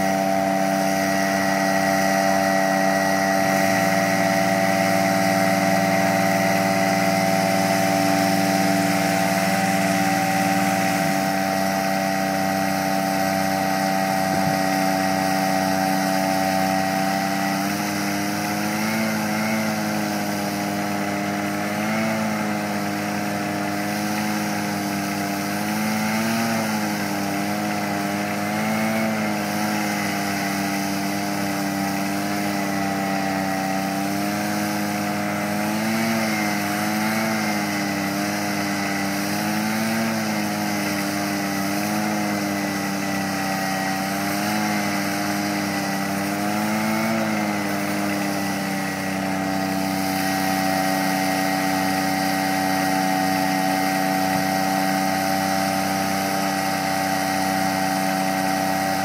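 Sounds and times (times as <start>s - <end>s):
ride-on mower engine drone: 0.0s - 59.0s
suction hose working over manure: 0.0s - 59.0s.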